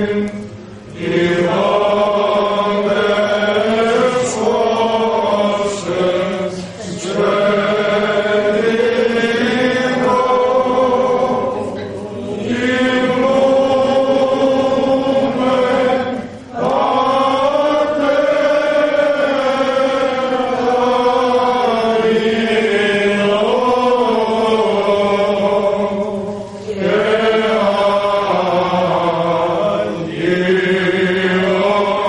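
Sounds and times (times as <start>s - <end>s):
male voices chanting: 0.0s - 32.0s.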